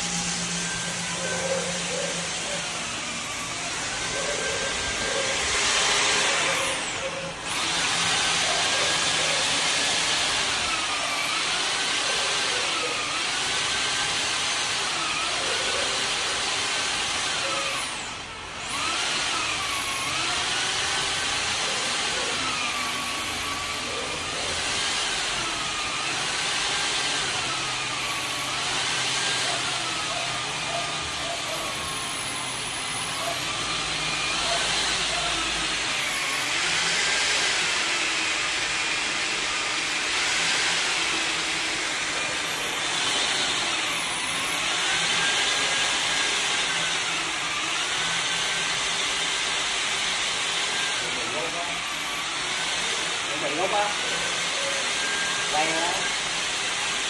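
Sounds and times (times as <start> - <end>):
cordless drill motor whine: 0.0 - 57.0.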